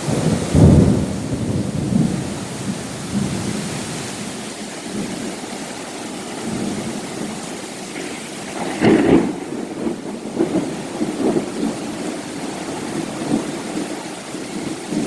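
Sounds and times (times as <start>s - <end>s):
thunder crack and rumbling: 0.0s - 5.4s, 6.3s - 15.0s
heavy rain hissing: 0.0s - 15.0s.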